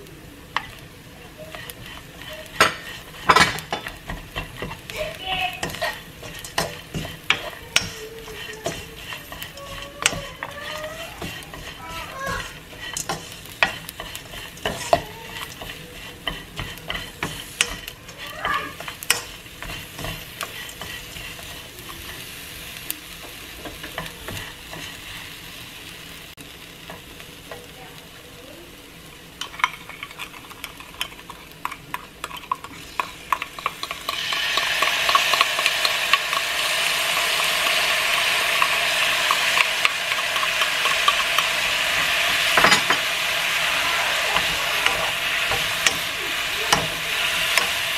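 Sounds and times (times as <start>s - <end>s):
food sizzling and crackling: 0.0s - 47.9s
wooden spoon scraping a pan: 0.5s - 25.6s, 29.4s - 47.9s.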